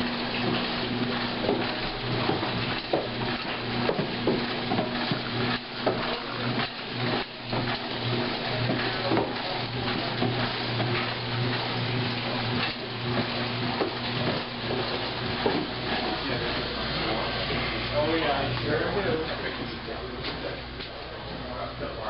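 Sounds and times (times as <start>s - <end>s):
washing machine motor hum: 0.0s - 22.0s
water sloshing in washing machine: 0.0s - 22.0s.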